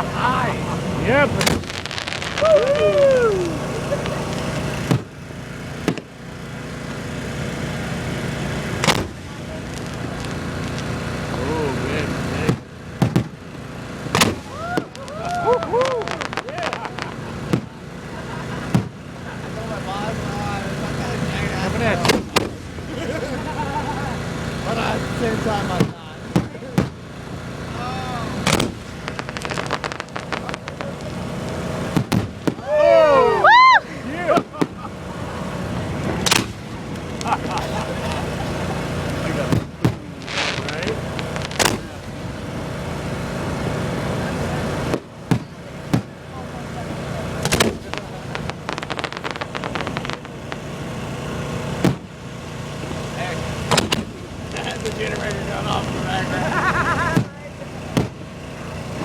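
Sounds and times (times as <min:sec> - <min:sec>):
engine-like hum: 0:00.0 - 0:59.0
fireworks bangs: 0:00.0 - 0:59.0
steady low rumble: 0:00.0 - 0:59.0
sharp crackles: 0:00.2 - 0:23.0, 0:24.2 - 0:59.0.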